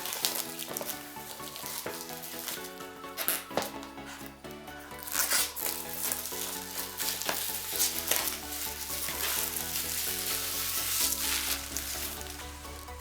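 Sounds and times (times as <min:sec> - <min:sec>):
shrink-wrap tearing and crumpling: 0:00.0 - 0:04.2, 0:05.0 - 0:13.0
background music: 0:00.0 - 0:13.0.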